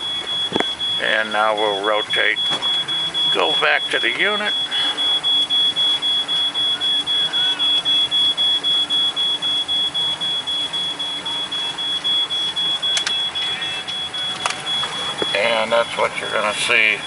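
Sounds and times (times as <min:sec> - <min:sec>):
electronic beeper beeping: 0:00.0 - 0:17.0.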